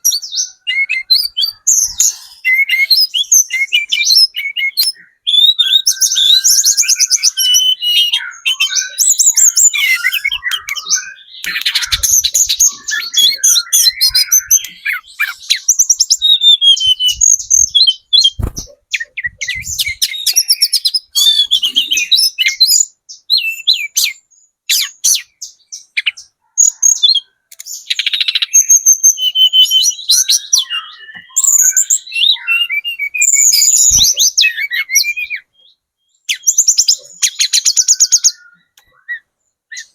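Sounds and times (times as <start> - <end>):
bird twittering and trilling: 0.0 - 39.9.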